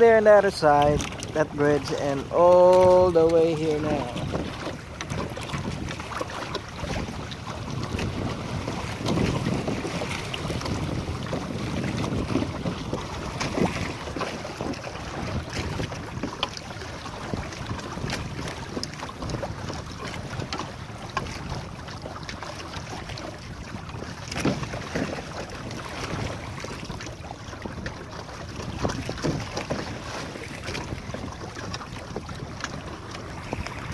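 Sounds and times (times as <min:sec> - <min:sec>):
water splashing against hull: 0:00.0 - 0:33.9
wind noise on microphone: 0:00.0 - 0:33.9.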